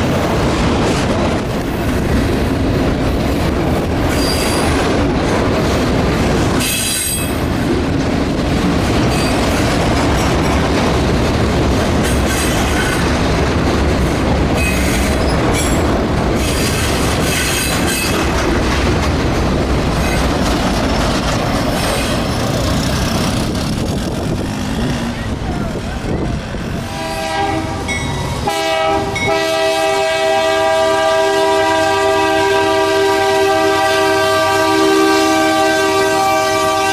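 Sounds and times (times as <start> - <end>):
freight train wheels rumbling: 0.0 - 36.9.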